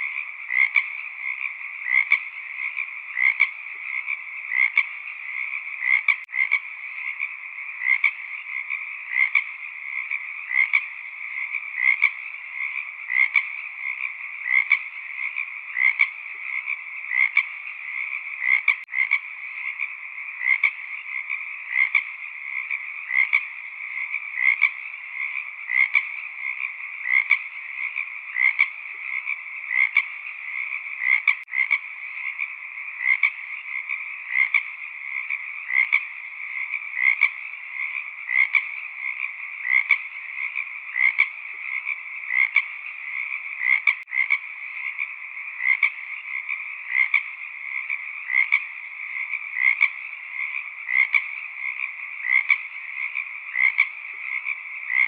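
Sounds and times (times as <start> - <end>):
frog chorus: 0.0 - 55.0
loud frog croaking: 0.0 - 55.0.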